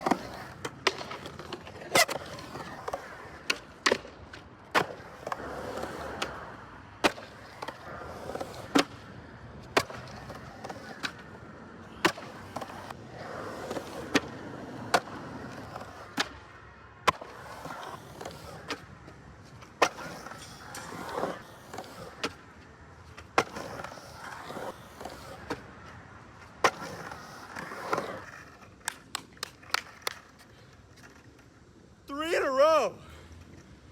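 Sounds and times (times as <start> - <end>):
skateboard clacking on ground: 0.0 - 31.8
skateboard wheels rolling: 0.0 - 33.9.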